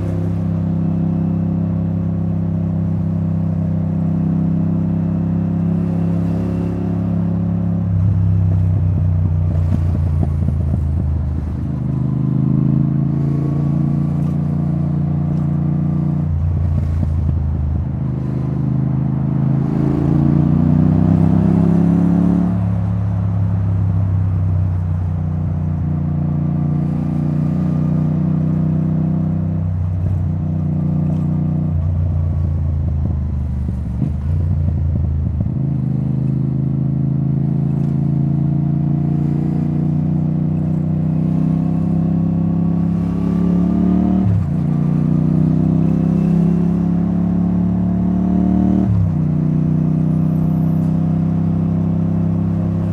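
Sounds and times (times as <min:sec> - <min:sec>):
motorcycle engine revving: 0:00.0 - 0:23.9, 0:26.4 - 0:52.9.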